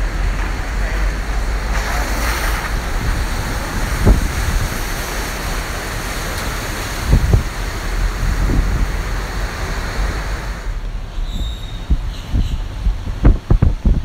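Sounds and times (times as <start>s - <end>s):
gusty wind on microphone: 0.0s - 14.0s
wind buffeting thumps: 0.0s - 14.0s.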